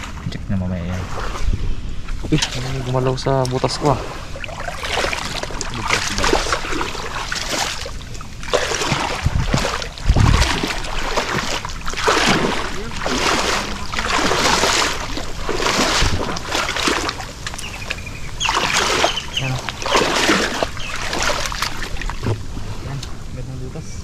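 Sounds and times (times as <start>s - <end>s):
water sloshing around wading legs: 0.0s - 23.3s.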